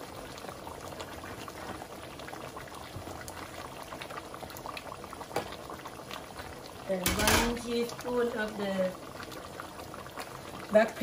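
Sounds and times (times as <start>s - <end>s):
stew bubbling and popping: 0.0s - 11.0s.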